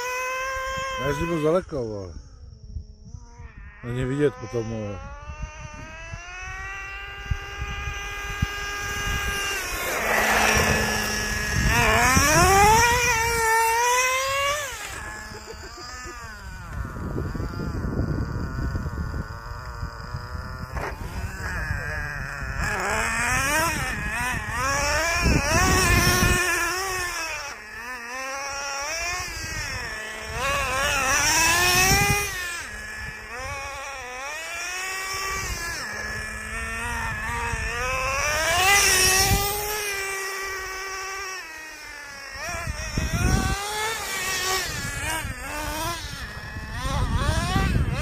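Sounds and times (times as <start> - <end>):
small nitro engine revving: 0.0 - 48.0.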